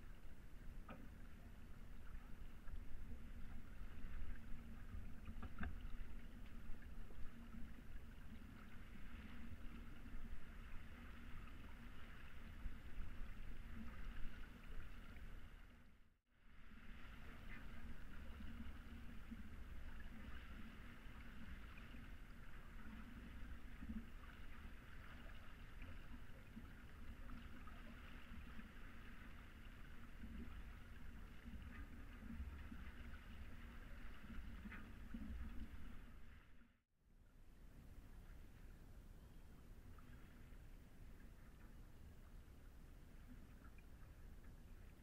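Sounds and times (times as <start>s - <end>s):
water rushing along a hull: 0.0s - 45.0s.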